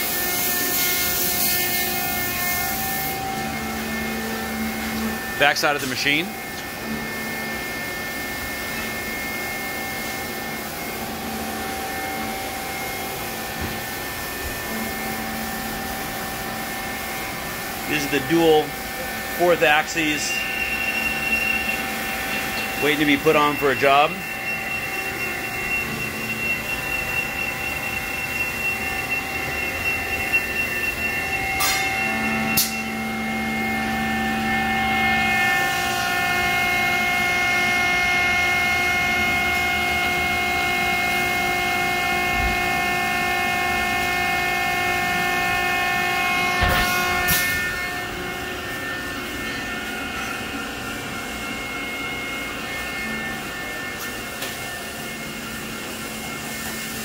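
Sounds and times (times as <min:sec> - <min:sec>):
machine-shop machinery whine: 0:00.0 - 0:57.0.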